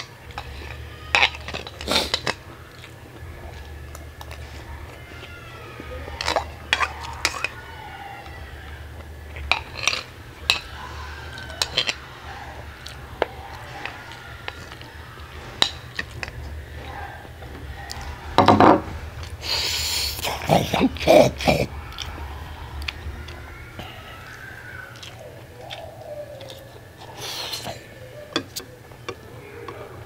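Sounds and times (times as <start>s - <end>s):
mouth sounds of eating: 0.0s - 30.0s.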